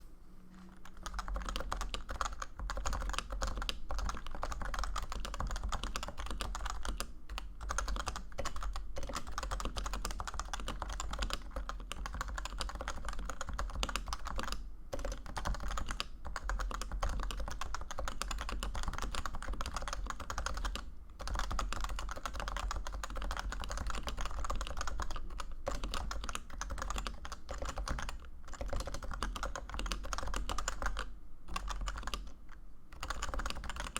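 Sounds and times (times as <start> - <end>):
steady low hum: 0.0 - 33.9
fast keyboard typing: 0.6 - 33.9.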